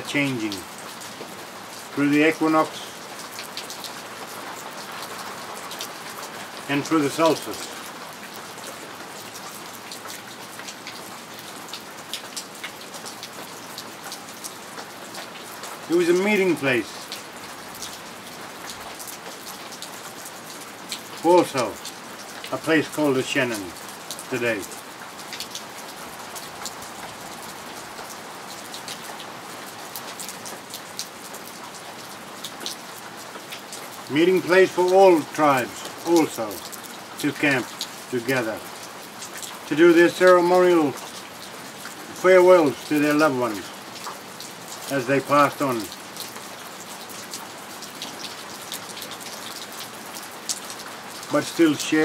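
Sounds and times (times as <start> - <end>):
raindrops striking close by: 0.0 - 52.0
steady rain falling: 0.0 - 52.0.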